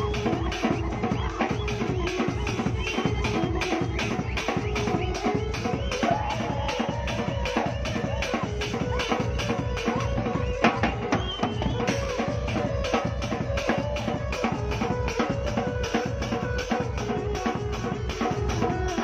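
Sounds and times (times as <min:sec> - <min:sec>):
held melody line: 0:00.0 - 0:19.0
quick steady drum beat: 0:00.0 - 0:19.0.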